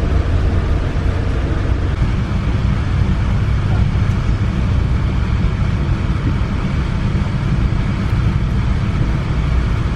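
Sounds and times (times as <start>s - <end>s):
train rumbling: 0.0s - 9.9s.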